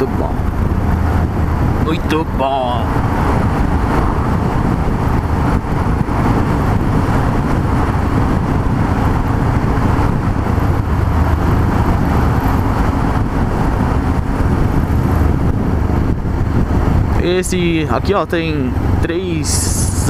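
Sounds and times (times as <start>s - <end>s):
motorcycle engine cruising: 0.0s - 20.0s
wind rush: 0.0s - 20.0s.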